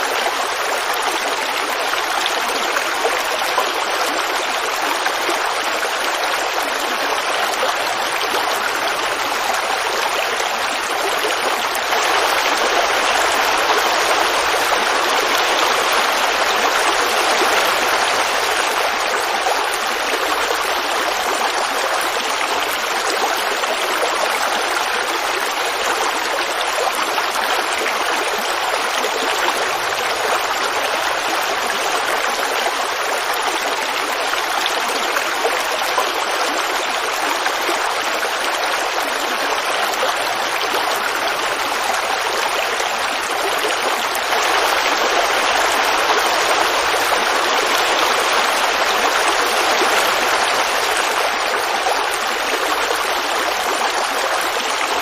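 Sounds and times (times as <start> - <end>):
creek water babbling over rocks: 0.0 - 55.0.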